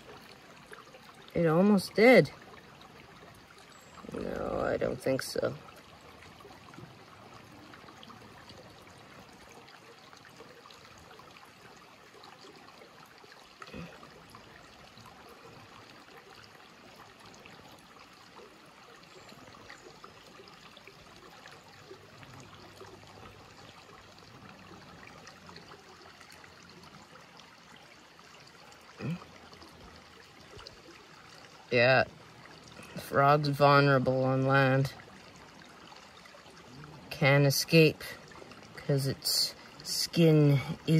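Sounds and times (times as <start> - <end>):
creek water trickling over rocks: 0.0 - 40.9.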